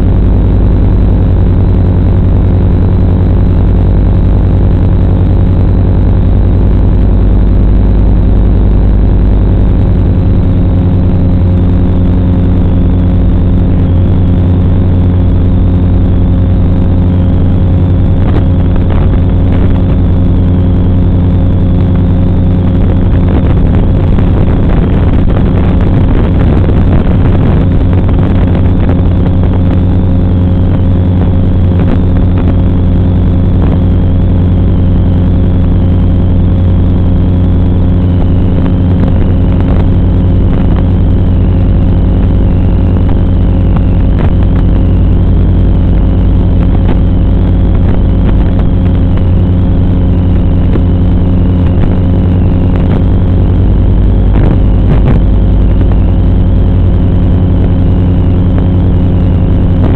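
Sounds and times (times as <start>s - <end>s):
drone buzzing: 0.0s - 59.9s.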